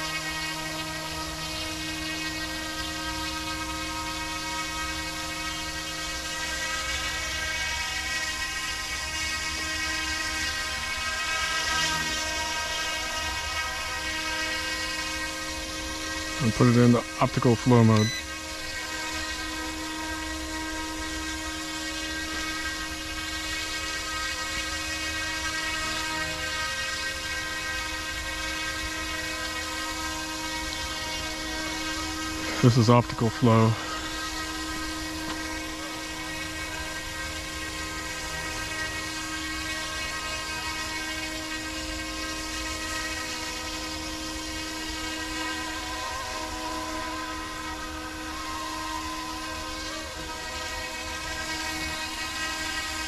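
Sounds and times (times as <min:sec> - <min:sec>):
rc helicopter high whine: 0:00.0 - 0:53.0.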